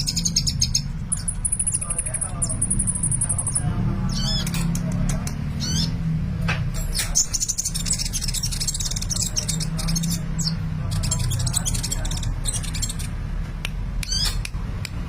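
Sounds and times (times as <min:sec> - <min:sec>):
sunbird chirping and trilling: 0:00.0 - 0:13.3, 0:14.0 - 0:14.5.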